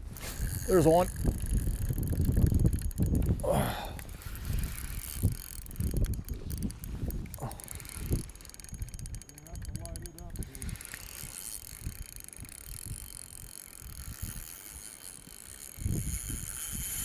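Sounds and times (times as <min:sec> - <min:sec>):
fishing reel drag clicking: 0:00.0 - 0:17.0
wind buffeting microphone: 0:00.0 - 0:17.0.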